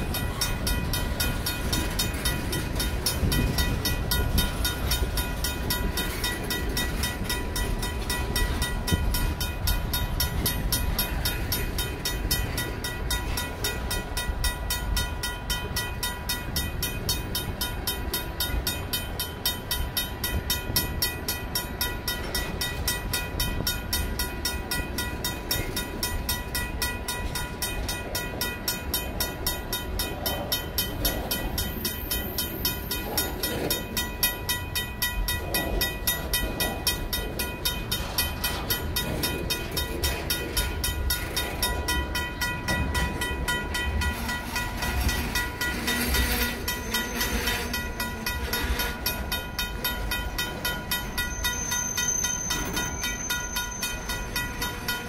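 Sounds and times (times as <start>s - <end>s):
freight train wheels rumbling on rails: 0.0s - 55.0s
mechanical crossing bell ringing: 0.0s - 55.0s.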